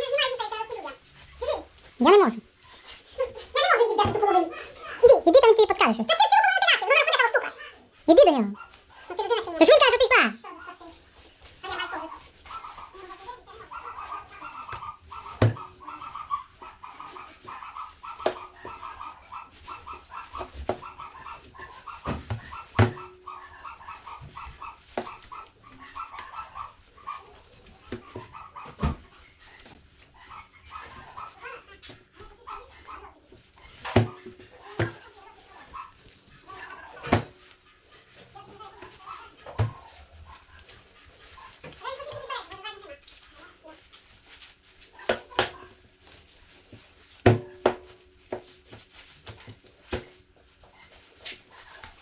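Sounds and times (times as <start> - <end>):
animal yipping: 0.0 - 52.0.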